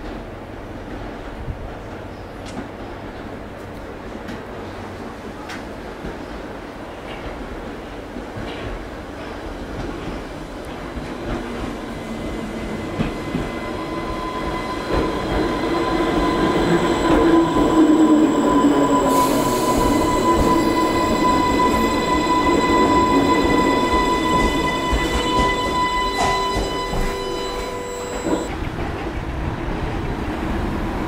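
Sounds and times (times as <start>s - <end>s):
train wheels rumbling: 0.0s - 31.0s
train whine and squeal: 0.0s - 31.0s.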